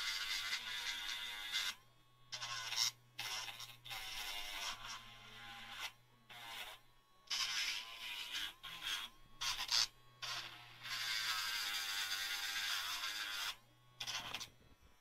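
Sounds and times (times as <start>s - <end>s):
grinding dog's nail: 0.0s - 14.6s
electric nail grinder humming: 0.0s - 15.0s.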